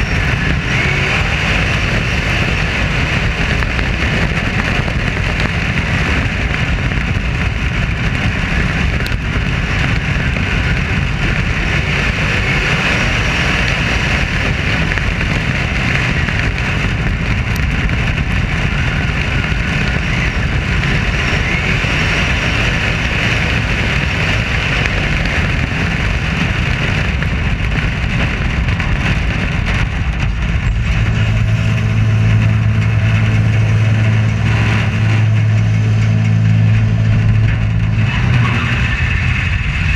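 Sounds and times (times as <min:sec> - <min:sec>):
air rushing: 0:00.0 - 0:39.9
race car engine running hard: 0:00.0 - 0:39.9.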